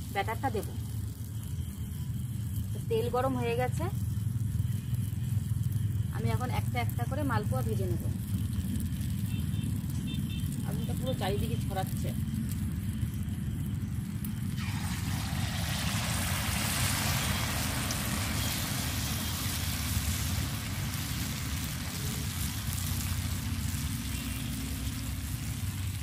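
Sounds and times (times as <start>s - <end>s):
batter sizzling in hot oil: 0.0s - 26.0s
low steady rumble: 0.0s - 26.0s.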